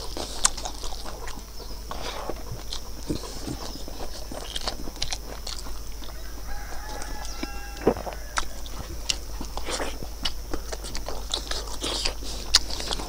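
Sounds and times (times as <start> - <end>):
man chewing food: 0.0 - 13.0
wet eating clicks and smacks: 0.0 - 13.0.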